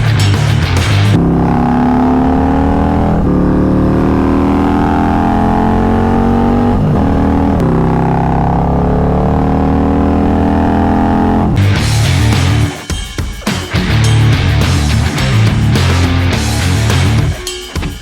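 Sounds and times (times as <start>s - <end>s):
motorcycle engine accelerating: 0.0s - 12.8s, 13.7s - 17.4s.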